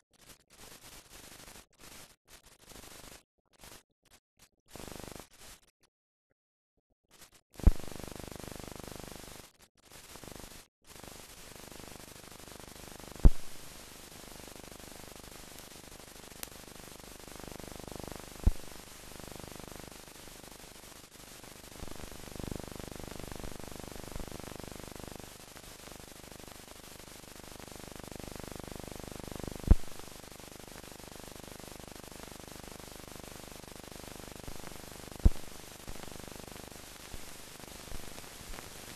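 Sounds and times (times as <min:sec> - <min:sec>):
film hiss and static: 0:00.0 - 0:03.8, 0:04.7 - 0:05.6, 0:07.1 - 0:38.9.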